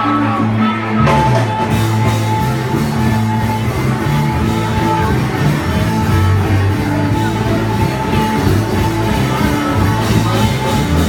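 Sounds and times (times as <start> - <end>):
loud rock music with singing: 0.0 - 11.0.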